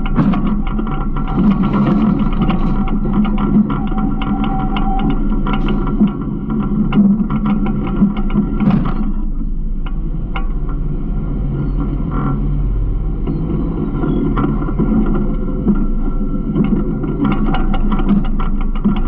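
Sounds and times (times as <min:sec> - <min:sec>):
garbage truck engine droning: 0:00.0 - 0:19.0
sharp rattles and clicks: 0:00.0 - 0:19.0.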